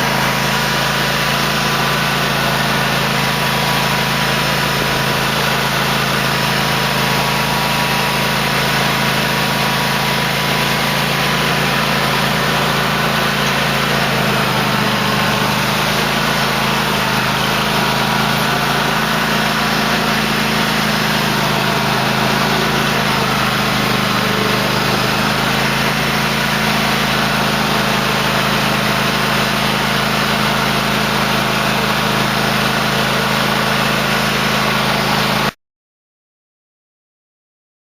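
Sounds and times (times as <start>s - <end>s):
lawn tractor engine running: 0.0s - 35.6s.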